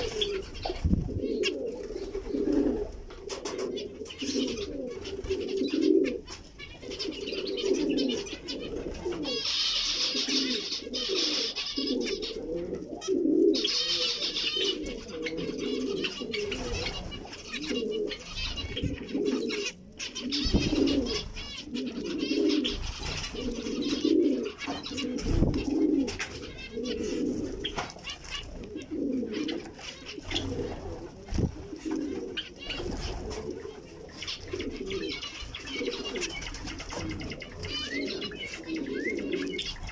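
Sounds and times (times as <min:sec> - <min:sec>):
finch chirps and chatter: 0:00.0 - 0:02.2, 0:02.9 - 0:12.4, 0:13.5 - 0:39.9
low cooing bird call: 0:00.0 - 0:39.9.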